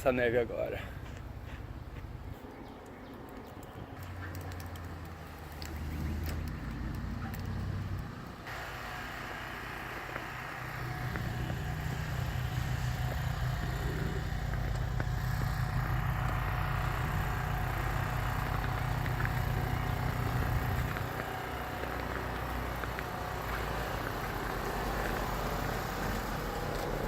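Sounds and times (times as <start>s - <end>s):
engine running steadily: 4.0s - 27.0s.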